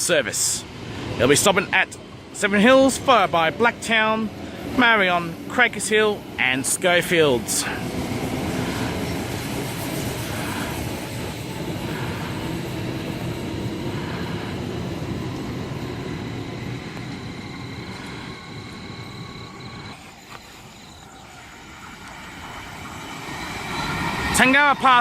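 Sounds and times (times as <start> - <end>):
electric train rumble: 0.0 - 25.0
thin high whine: 0.0 - 25.0.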